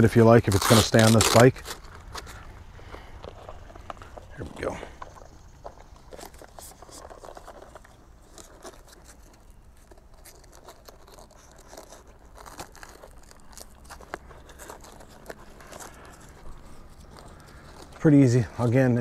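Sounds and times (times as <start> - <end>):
hook-and-loop strap ripping: 0.0 - 19.0.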